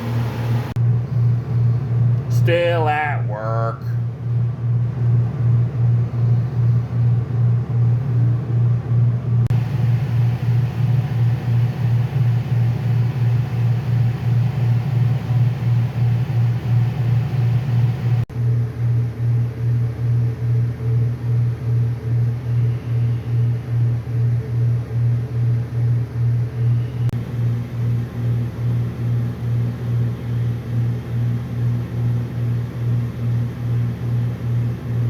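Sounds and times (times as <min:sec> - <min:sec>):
low pulsing mechanical hum: 0:00.0 - 0:35.0.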